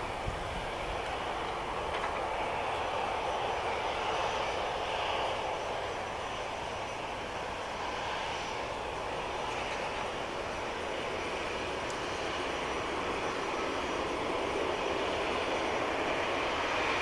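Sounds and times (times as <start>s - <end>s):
jet engines running at low power: 0.0s - 17.0s.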